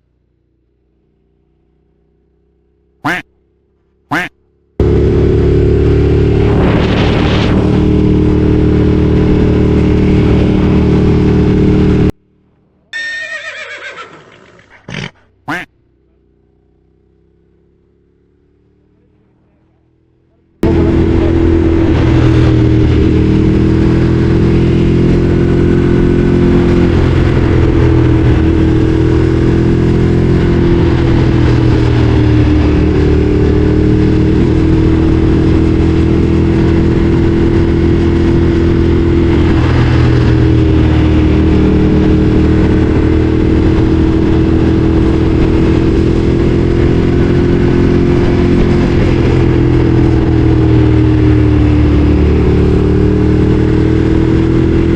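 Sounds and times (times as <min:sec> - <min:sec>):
motorcycle engine cruising: 0:00.0 - 0:54.9.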